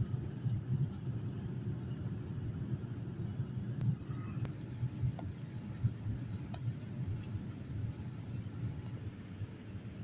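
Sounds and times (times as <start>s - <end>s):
airliner cabin engine hum: 0.0s - 10.0s.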